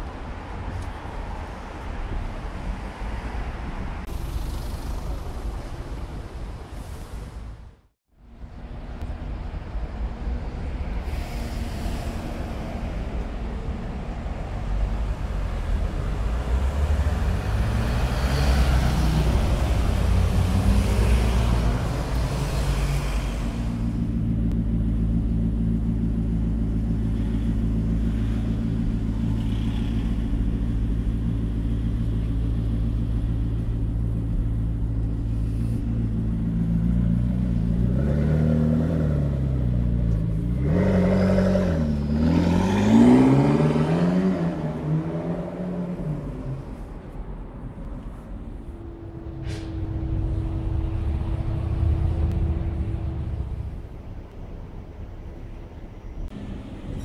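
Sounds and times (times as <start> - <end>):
traffic pulling away: 0.0 - 57.0
sports car engine idling and revving: 4.0 - 6.4, 13.1 - 57.0.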